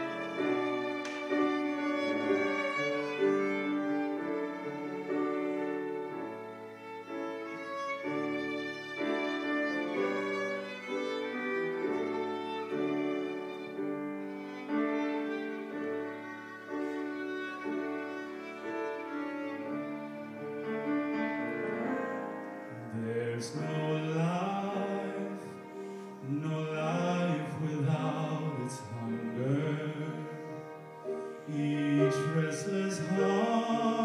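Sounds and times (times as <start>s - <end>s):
slow violin melody: 0.0s - 34.0s
soft accompaniment: 0.0s - 34.0s.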